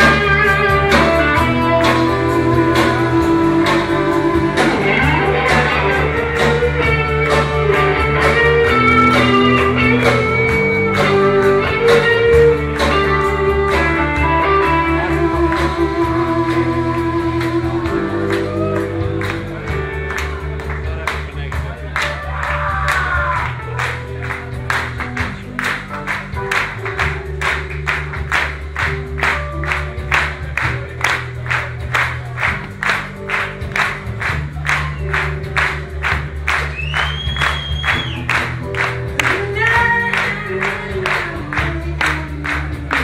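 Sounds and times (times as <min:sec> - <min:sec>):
live rock band playing: 0:00.0 - 0:43.0.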